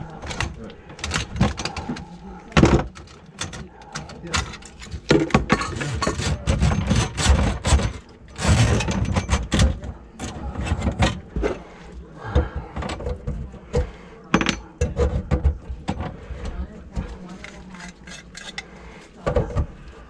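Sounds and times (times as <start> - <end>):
knocks and clatter in cabinet: 0.2 - 11.6, 12.3 - 17.1, 19.2 - 19.8.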